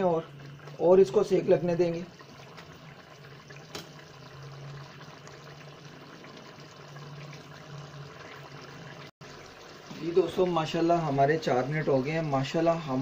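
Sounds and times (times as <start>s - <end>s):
curry bubbling: 0.0s - 13.0s.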